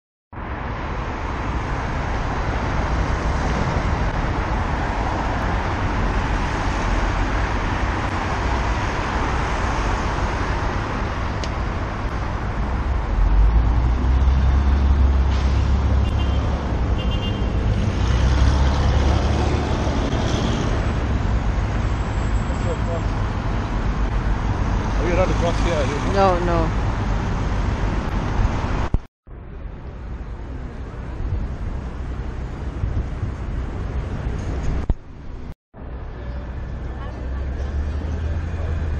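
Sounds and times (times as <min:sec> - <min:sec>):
deep traffic rumble: 0:00.3 - 0:38.9
road traffic passing: 0:00.3 - 0:38.9.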